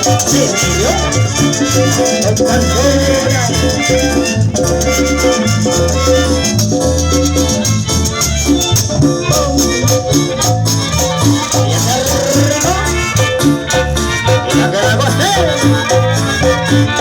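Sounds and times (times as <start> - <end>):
live dance band music: 0.0 - 17.0
pulsing bass line: 0.0 - 17.0.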